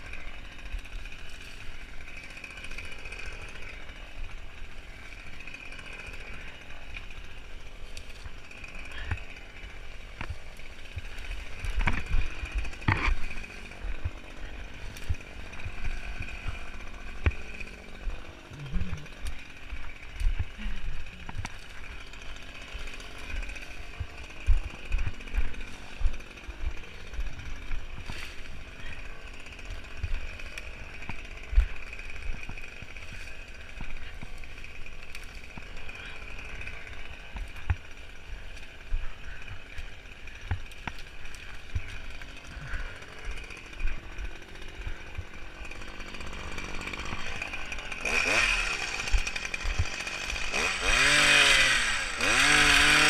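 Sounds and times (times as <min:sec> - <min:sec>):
small engine idling: 0:00.0 - 0:53.0.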